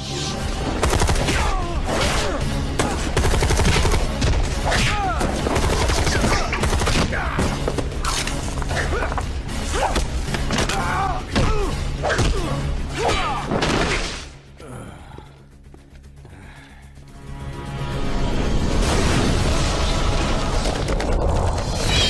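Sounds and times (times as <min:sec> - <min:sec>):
dramatic film score: 0:00.0 - 0:22.0.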